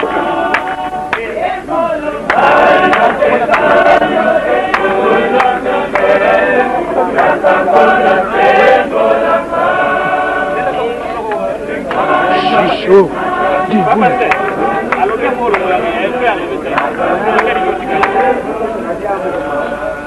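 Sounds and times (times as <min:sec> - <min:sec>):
group singing in chorus: 0:00.0 - 0:20.0.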